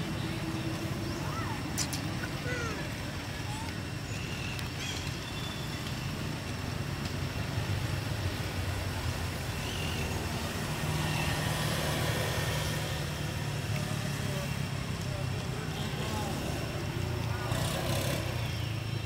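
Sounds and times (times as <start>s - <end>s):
low engine-like hum: 0.0s - 19.0s.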